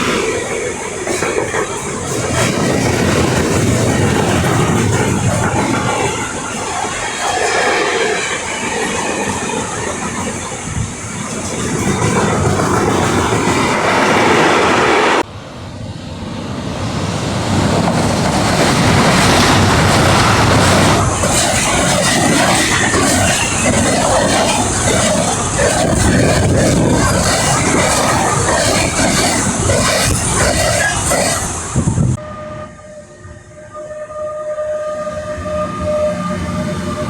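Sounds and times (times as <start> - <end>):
train wheels clattering on track: 0.0 - 15.3, 16.0 - 31.9.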